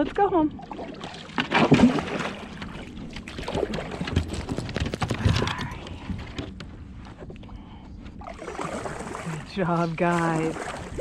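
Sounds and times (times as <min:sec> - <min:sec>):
water sloshing: 0:00.0 - 0:11.0.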